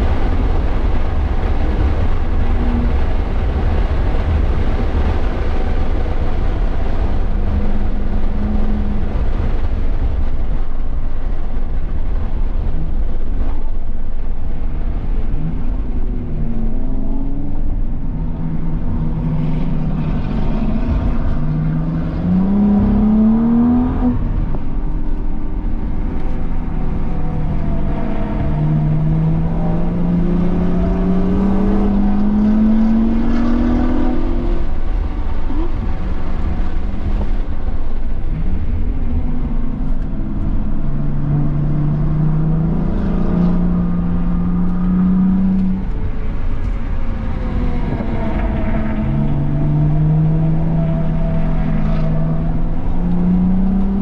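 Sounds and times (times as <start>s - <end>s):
car engine at full throttle: 0.0s - 54.0s
road and wind noise: 0.0s - 54.0s.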